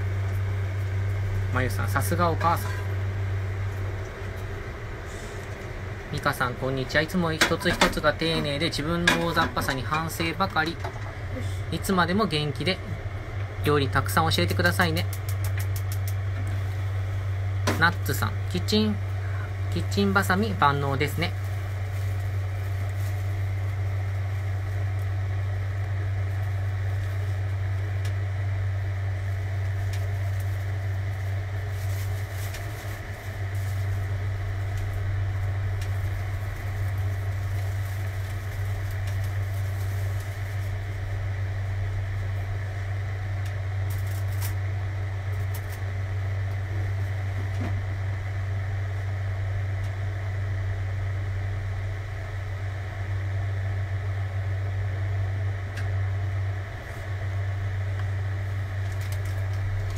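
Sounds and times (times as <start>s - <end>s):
kitchen fan droning: 0.0s - 59.9s.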